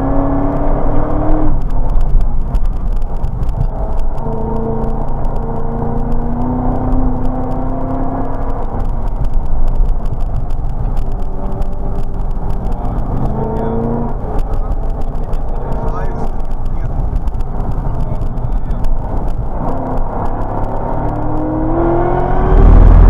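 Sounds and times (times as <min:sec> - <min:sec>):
car engine pulling hard: 0:00.0 - 0:23.0
tyre and wind noise: 0:00.0 - 0:23.0.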